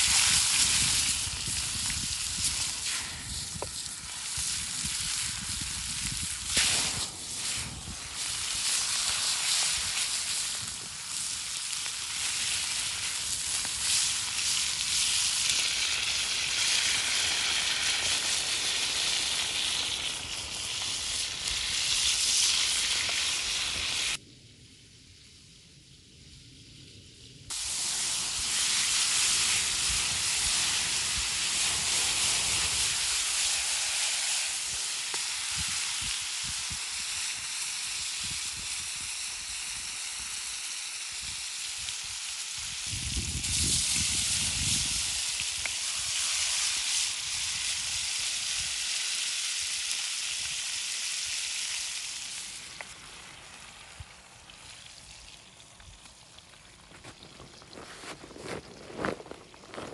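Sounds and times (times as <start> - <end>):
sizzling hiss: 0.0 - 59.9.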